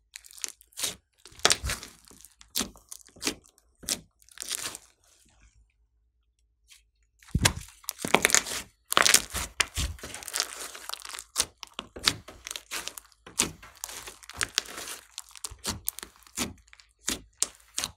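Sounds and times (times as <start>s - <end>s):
slime squelching and popping: 0.1s - 5.1s, 7.2s - 17.9s.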